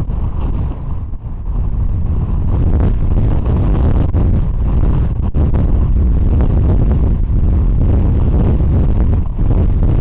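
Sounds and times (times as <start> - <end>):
strong wind buffeting microphone: 0.0 - 10.0.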